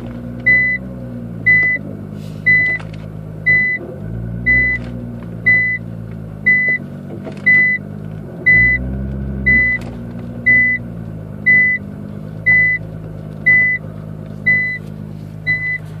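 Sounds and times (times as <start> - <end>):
car engine humming: 0.0 - 16.0
reverse warning beeping: 0.4 - 9.8, 10.4 - 12.8, 13.4 - 13.8, 14.4 - 16.0.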